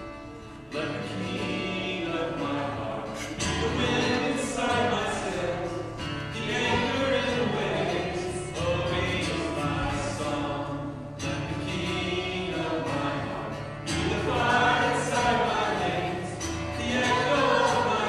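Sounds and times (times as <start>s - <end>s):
acoustic guitar: 0.0s - 18.0s
group of voices singing: 0.7s - 18.0s.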